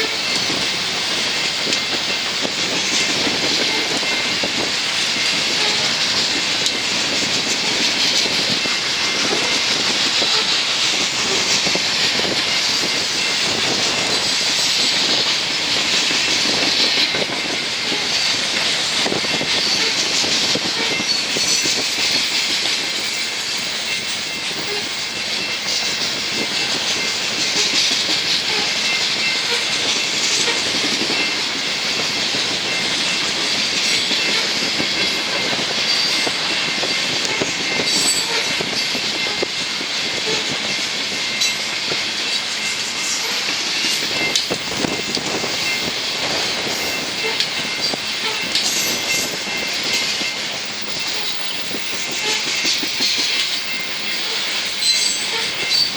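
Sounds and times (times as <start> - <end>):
high wheel squeal on rails: 0.0 - 55.9
train cars rolling past: 0.0 - 55.9
wheels clicking over rail joints: 0.0 - 55.9.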